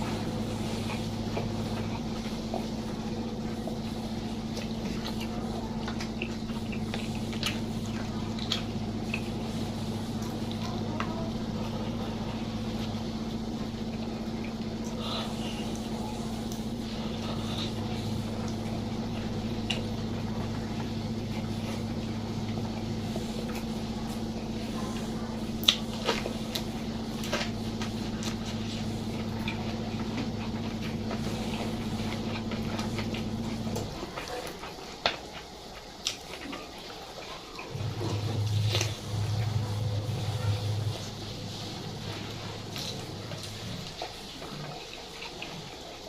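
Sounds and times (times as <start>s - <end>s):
chewing and handling food: 0.0s - 46.0s
steady low hum: 0.0s - 46.0s.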